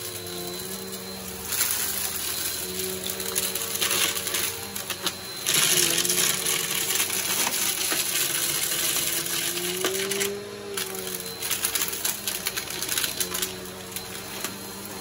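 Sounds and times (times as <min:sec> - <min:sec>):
debris rattling in vacuum: 0:00.0 - 0:15.0
vacuum cleaner running on carpet: 0:00.0 - 0:15.0.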